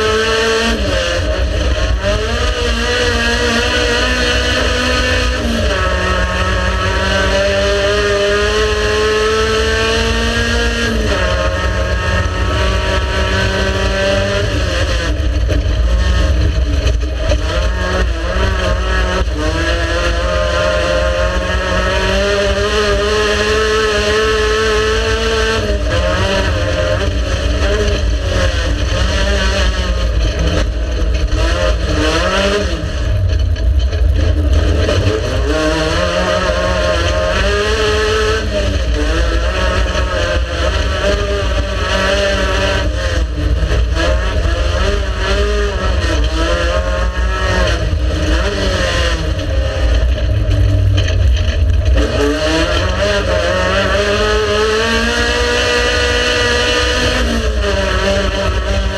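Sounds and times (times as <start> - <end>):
race car engine running hard: 0.0 - 58.9.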